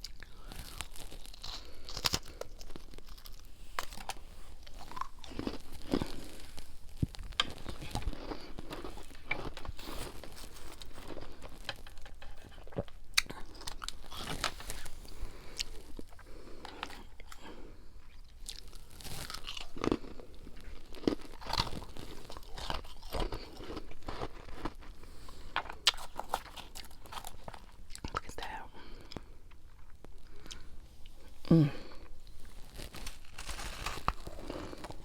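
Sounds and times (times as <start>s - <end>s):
crunchy chewing: 0.0s - 35.0s.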